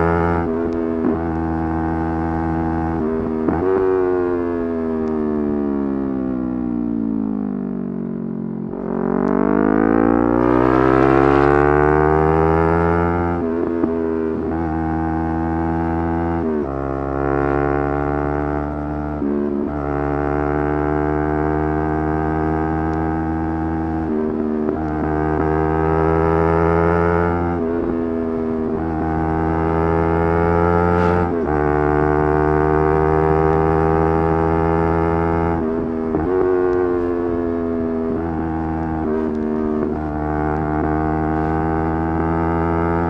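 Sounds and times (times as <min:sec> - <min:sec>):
motorcycle engine revving high: 0:08.5 - 0:43.0.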